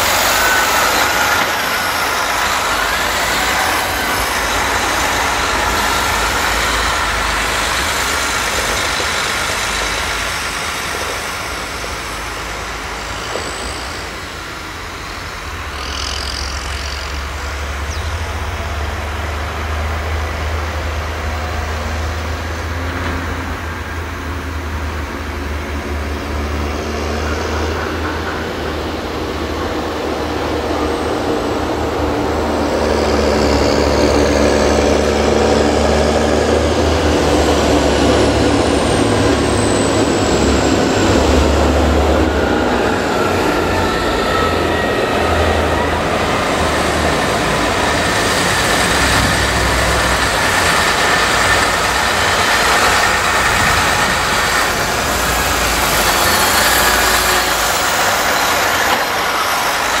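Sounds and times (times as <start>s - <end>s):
high whine gliding down: 0.0s - 60.0s
tractor diesel engines running: 0.0s - 60.0s.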